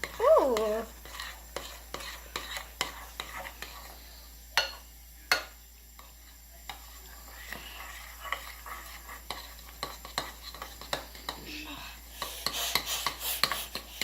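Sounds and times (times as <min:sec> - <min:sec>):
spoon stirring squelchy slime: 0:00.0 - 0:04.4, 0:06.0 - 0:14.0.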